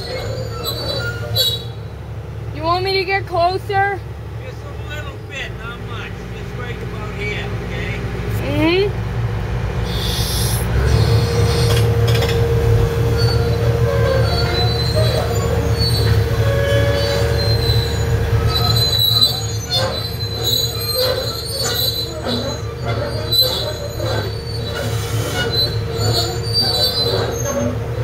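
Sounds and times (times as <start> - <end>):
crawler tracks squealing and clanking: 0.0 - 8.6, 9.8 - 28.0
excavator diesel engine running: 0.0 - 28.0.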